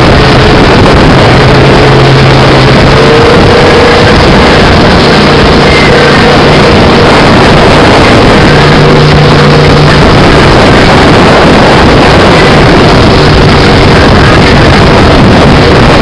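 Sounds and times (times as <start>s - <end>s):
boat engine hum: 0.0s - 16.0s
rush of wind and water: 0.0s - 16.0s.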